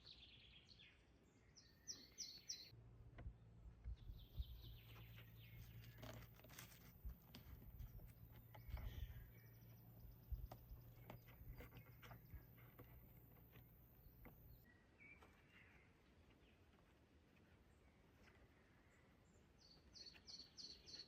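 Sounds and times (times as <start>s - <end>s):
birds chirping: 0.0s - 2.8s, 3.7s - 21.0s.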